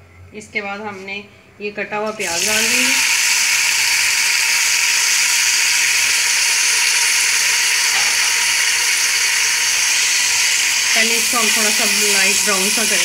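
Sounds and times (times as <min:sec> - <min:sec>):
onions sizzling in hot oil: 0:02.2 - 0:13.0.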